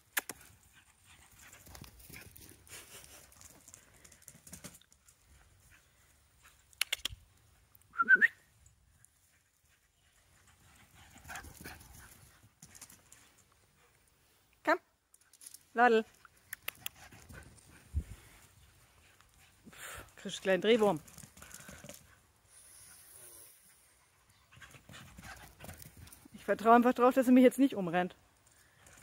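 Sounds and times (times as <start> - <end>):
dog paws galloping on grass: 0.3 - 7.7, 8.8 - 14.2, 15.5 - 22.4, 24.5 - 29.0.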